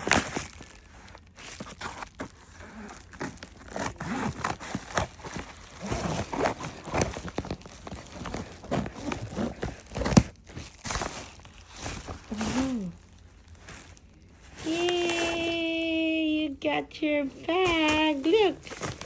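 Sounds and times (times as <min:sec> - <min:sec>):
packaging crinkling and rustling: 0:00.0 - 0:15.8, 0:17.5 - 0:19.0.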